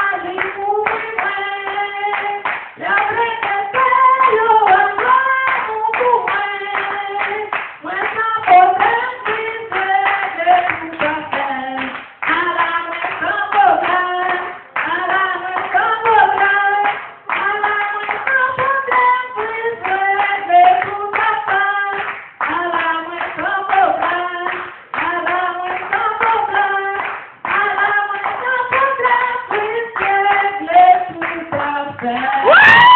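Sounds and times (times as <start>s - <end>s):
woman singing gospel: 0.0s - 32.9s
hand clapping: 0.3s - 15.0s, 15.6s - 32.9s.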